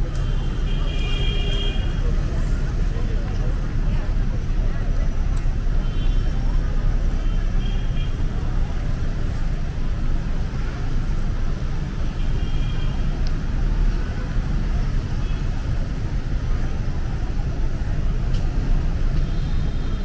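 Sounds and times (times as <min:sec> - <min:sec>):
faint voices: 0:00.0 - 0:20.0
traffic rumble: 0:00.0 - 0:20.0.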